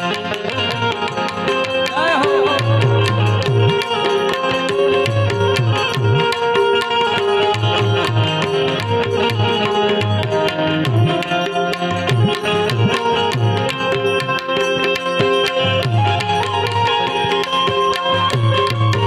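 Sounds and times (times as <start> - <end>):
sustained melody instrument: 0.0 - 19.0
tabla beat: 0.0 - 19.0.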